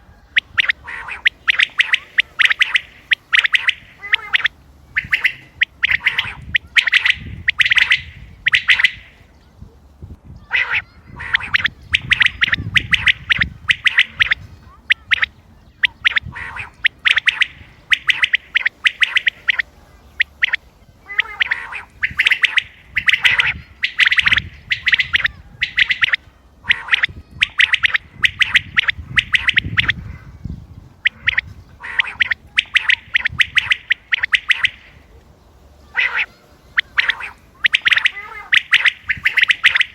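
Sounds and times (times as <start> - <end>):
quail calling: 0.0 - 9.2, 10.4 - 30.3, 31.0 - 35.2, 35.8 - 39.9.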